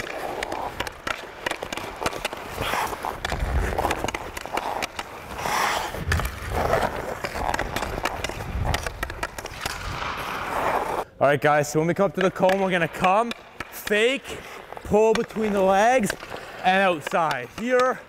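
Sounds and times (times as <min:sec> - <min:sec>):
hockey stick tapping puck: 0:00.0 - 0:11.0, 0:11.7 - 0:18.0
ice skate blades scraping ice: 0:00.0 - 0:11.1, 0:12.4 - 0:18.0.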